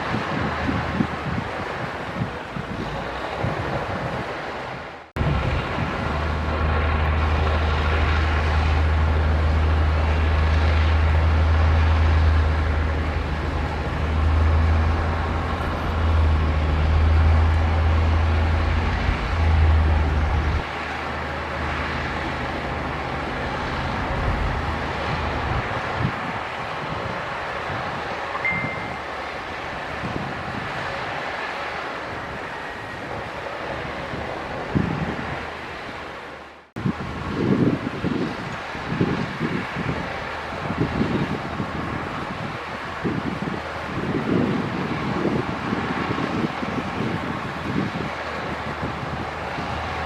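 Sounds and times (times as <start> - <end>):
heavy diesel engine drone: 0.0 - 50.0.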